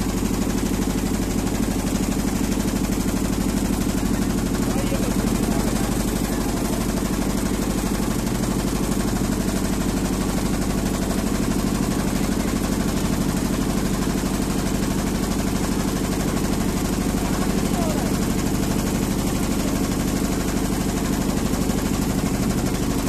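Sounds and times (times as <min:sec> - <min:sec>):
motorboat engine running: 0:00.0 - 0:23.0.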